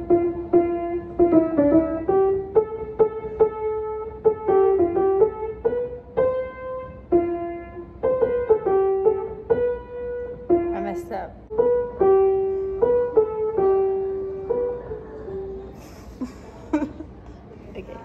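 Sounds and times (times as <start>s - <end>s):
piano playing simple tune: 0.0s - 17.0s.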